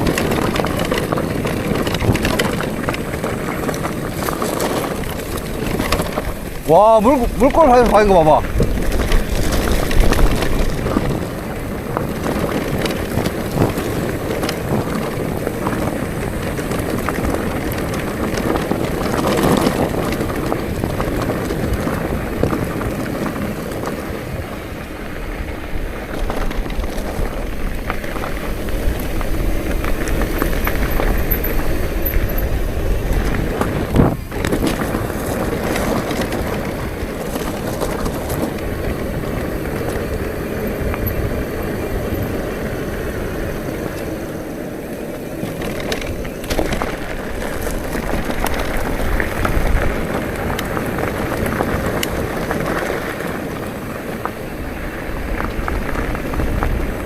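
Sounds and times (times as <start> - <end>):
bicycle jolt: 0.0 - 57.0
bicycle tyres rumbling on rough road: 0.0 - 57.0
wind buffeting microphone: 0.0 - 57.0.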